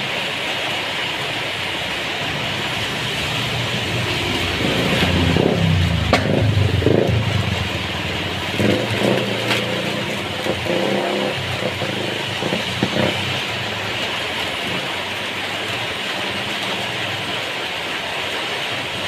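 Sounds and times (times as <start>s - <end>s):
heavy rain falling: 0.0s - 19.0s
vehicle engine passing: 1.3s - 17.1s.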